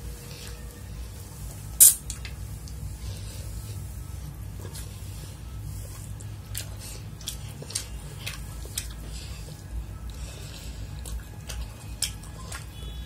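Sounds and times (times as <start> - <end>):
close chewing and mouth smacks: 2.1 - 13.0.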